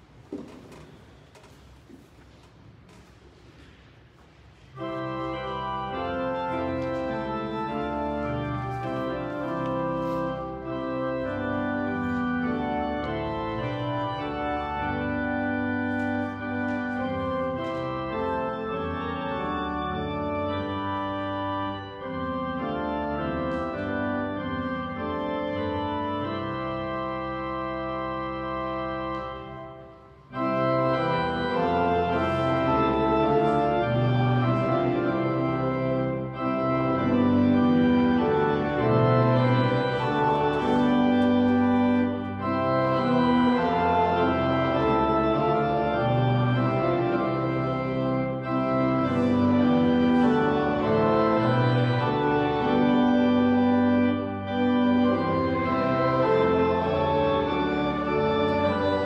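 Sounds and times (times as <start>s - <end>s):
church organ chords: 4.6s - 59.0s.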